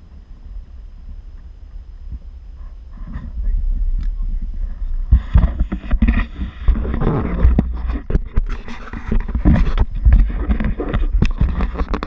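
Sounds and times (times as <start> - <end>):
low rumble: 0.0 - 12.0
microphone handling noise: 0.0 - 12.0.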